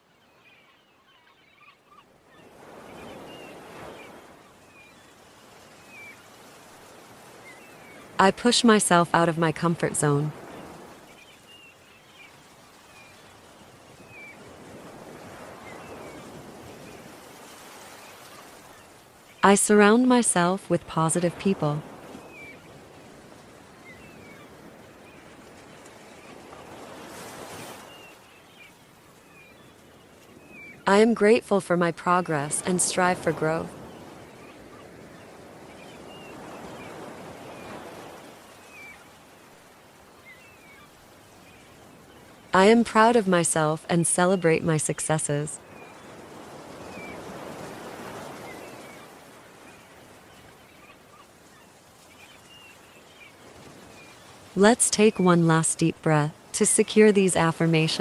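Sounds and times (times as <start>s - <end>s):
ocean waves washing in: 1.4s - 58.0s.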